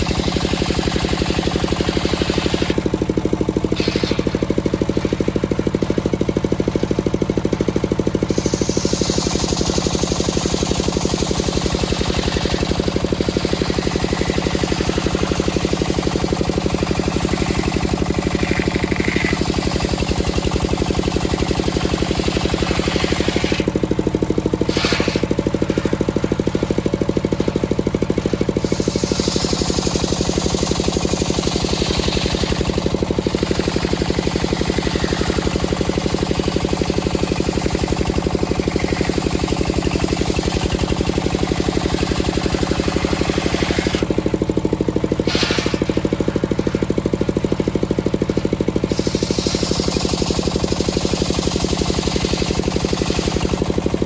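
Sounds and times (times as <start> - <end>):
circular saw cutting wood: 0.0 - 3.0, 3.6 - 6.1, 8.0 - 26.8, 27.4 - 44.4, 45.2 - 47.0, 48.8 - 53.7
engine running: 0.0 - 54.0.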